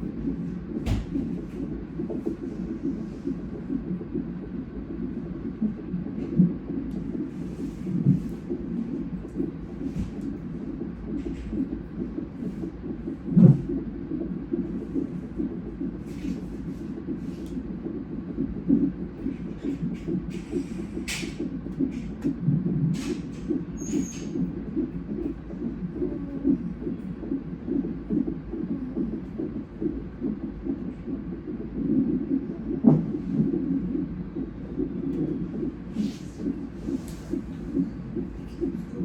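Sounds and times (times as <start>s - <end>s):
fetal heartbeat on doppler monitor: 0.0s - 39.0s.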